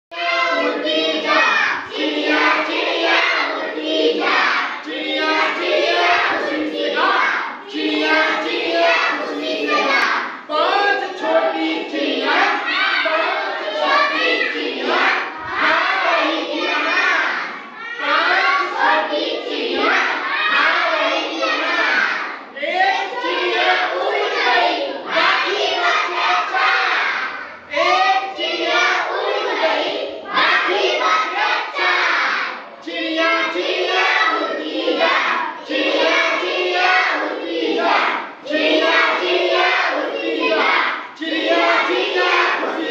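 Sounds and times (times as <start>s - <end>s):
children chanting: 0.1s - 42.9s.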